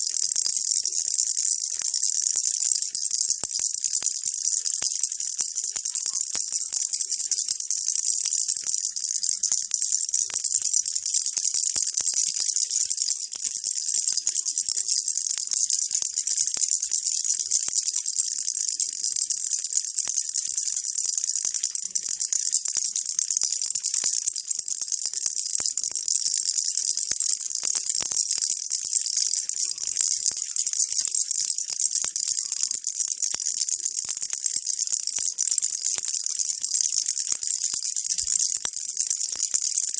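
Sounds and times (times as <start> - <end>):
baby rattle jingling: 0.0 - 39.7.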